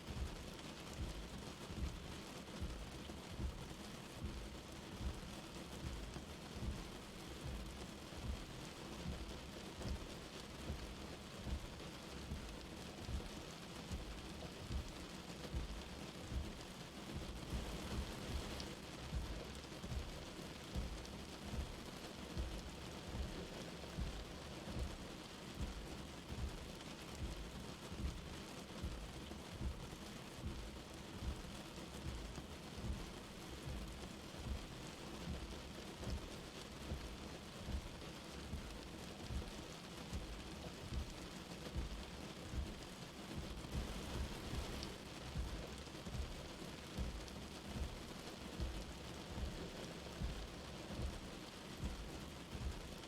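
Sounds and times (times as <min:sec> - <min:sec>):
light rain hissing: 0:00.0 - 0:53.0
soft low thuds: 0:00.1 - 0:10.1, 0:10.7 - 0:25.0, 0:25.6 - 0:53.0.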